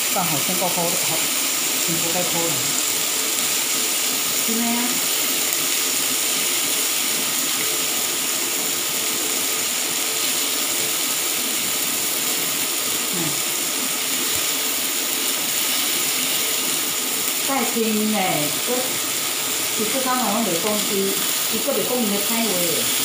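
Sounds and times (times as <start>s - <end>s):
chicken sizzling on grill pan: 0.0s - 23.0s.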